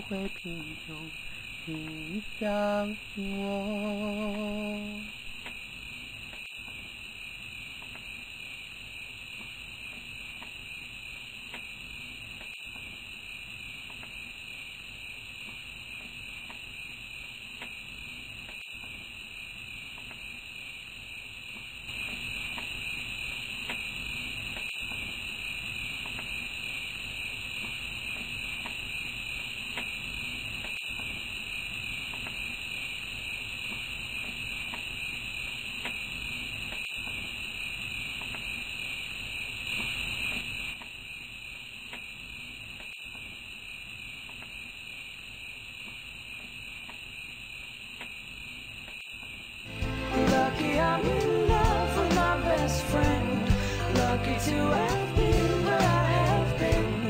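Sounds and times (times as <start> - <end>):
crickets chirring: 0.0 - 57.0.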